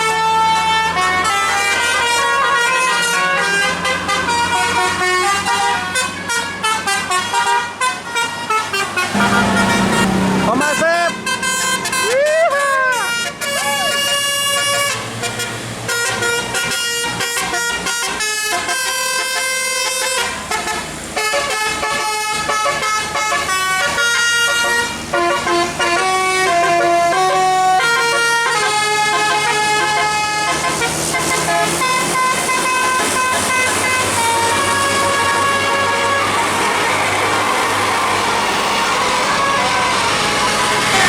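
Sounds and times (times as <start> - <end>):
musical air horn melody: 0.0 - 41.0.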